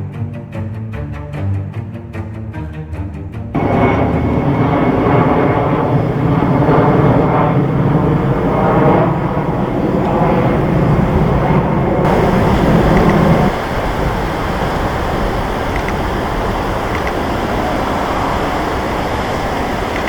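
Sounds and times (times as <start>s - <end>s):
jet engines roaring: 3.5s - 20.0s.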